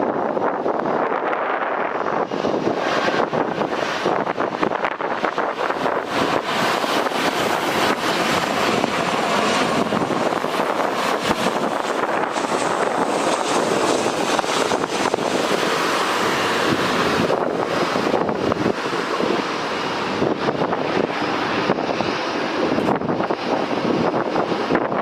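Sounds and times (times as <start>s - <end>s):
jet engine noise: 0.0s - 25.0s
wind buffeting microphone: 0.0s - 25.0s.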